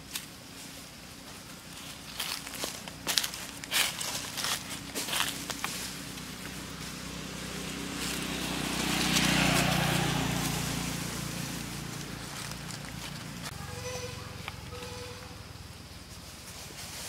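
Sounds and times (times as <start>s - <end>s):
vehicle engine passing by: 2.2s - 16.4s.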